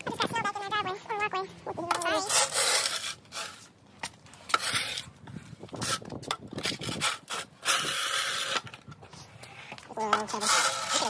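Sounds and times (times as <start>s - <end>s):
shovel scraping snow off concrete: 2.0s - 11.0s.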